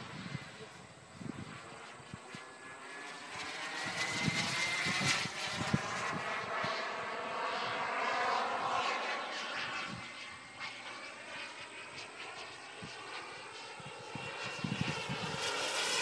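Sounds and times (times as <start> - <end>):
jet turbine roar passing overhead: 0.0 - 16.0.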